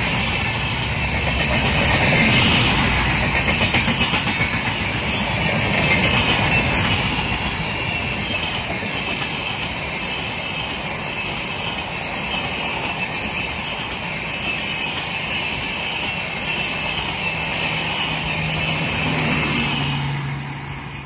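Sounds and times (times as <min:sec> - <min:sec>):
train wheels rushing on rails: 0:00.0 - 0:21.0.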